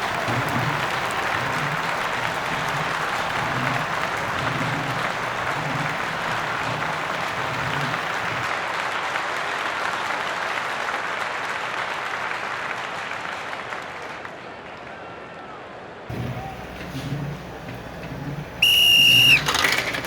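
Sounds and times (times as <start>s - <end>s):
crowd applauding and cheering: 0.0s - 15.5s, 16.1s - 20.0s.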